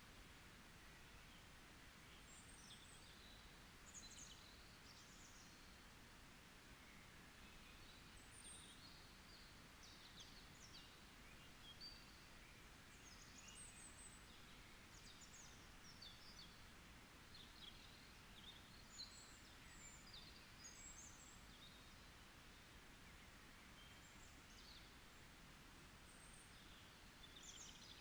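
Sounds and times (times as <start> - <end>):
soft forest ambience hiss: 0.0 - 28.0.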